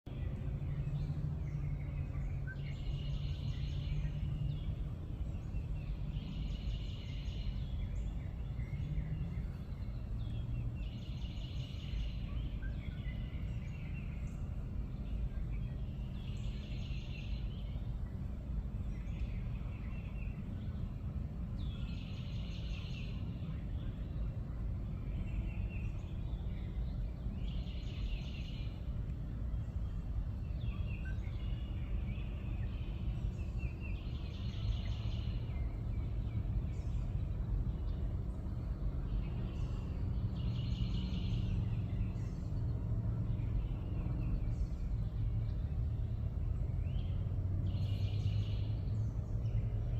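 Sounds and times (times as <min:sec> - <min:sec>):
low outdoor rumble: 0:00.0 - 0:49.9.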